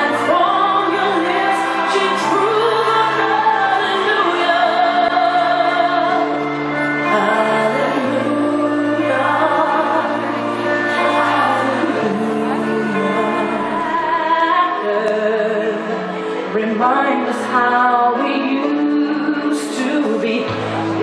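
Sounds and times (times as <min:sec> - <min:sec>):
slow music with singing: 0:00.0 - 0:21.0.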